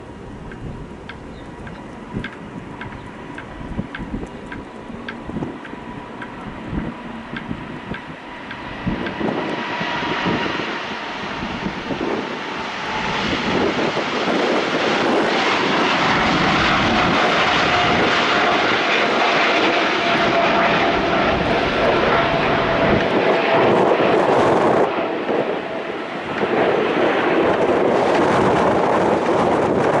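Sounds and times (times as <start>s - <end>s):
jet engine roar: 0.0s - 30.0s
jet engine whine falling: 0.0s - 30.0s.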